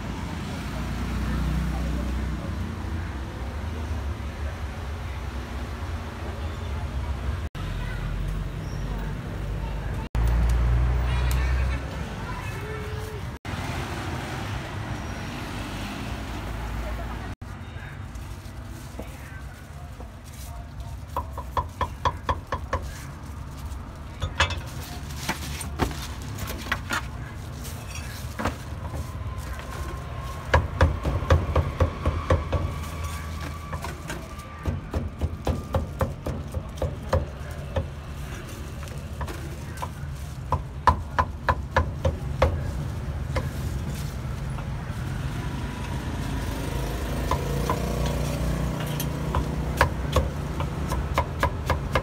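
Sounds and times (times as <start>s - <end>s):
low hum of street noise: 0.0s - 52.0s.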